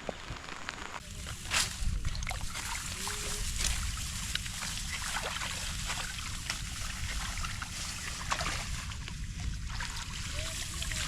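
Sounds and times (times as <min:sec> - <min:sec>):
water dripping and splashing: 0:02.0 - 0:11.0.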